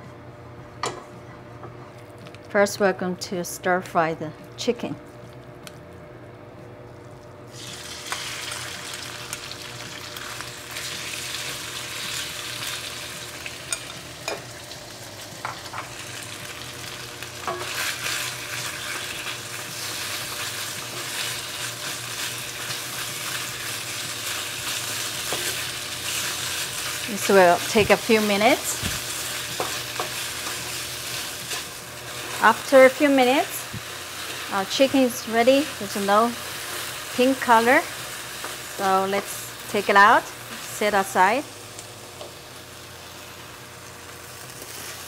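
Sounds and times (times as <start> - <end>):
chicken sizzling in oil: 7.5 - 45.0.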